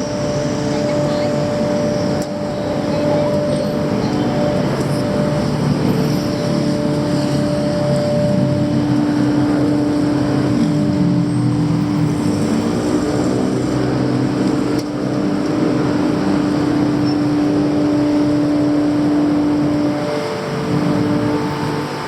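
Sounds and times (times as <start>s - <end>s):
street traffic: 0.0s - 22.0s
vehicle engine running: 0.0s - 22.0s.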